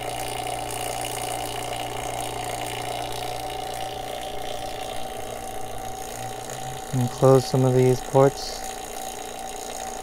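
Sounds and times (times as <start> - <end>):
vacuum pump humming: 0.0 - 10.0.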